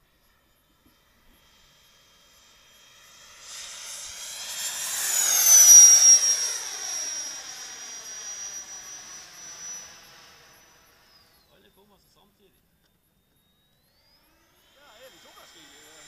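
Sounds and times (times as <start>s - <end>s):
model jet fly-past whine: 0.0s - 16.0s.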